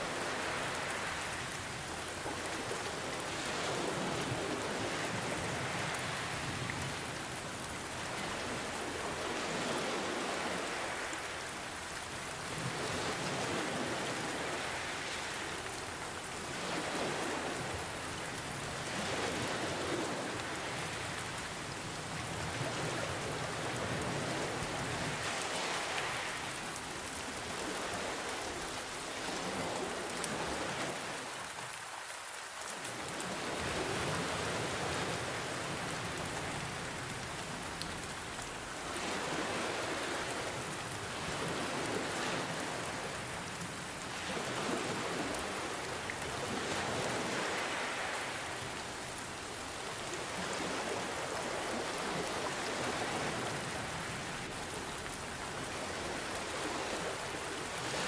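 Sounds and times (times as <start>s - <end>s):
ocean waves: 0.0s - 58.0s
steady rain falling: 0.0s - 58.0s.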